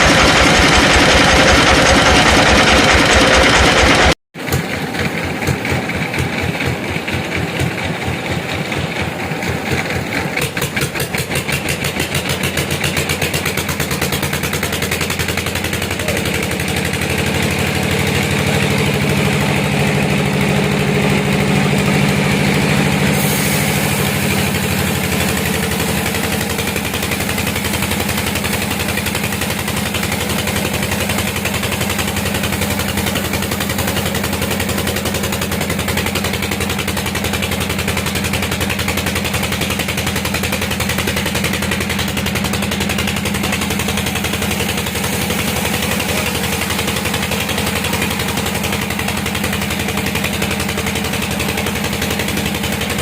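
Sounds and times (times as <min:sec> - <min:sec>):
engine with fast even pulse: 0:00.0 - 0:53.0
sawmill machinery running: 0:00.0 - 0:53.0.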